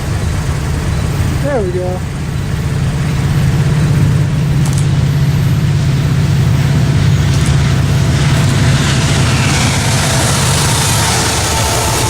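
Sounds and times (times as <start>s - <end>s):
diesel locomotive engine throbbing: 0.0s - 12.0s.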